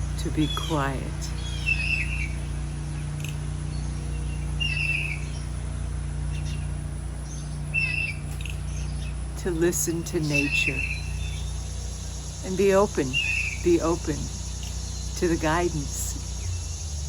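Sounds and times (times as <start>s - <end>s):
bird calling: 0.0s - 17.0s
low mechanical hum: 0.0s - 17.0s.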